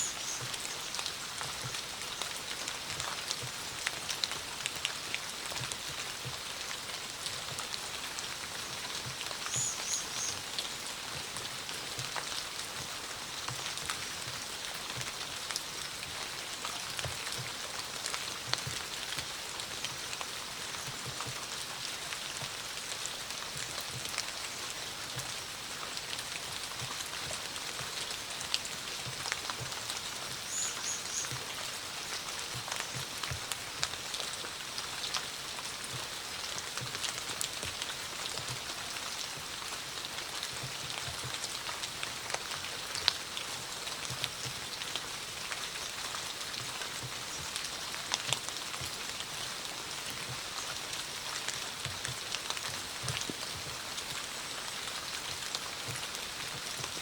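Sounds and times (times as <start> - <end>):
steady rain hiss: 0.0 - 57.0
raindrops tapping on a surface: 0.1 - 57.0.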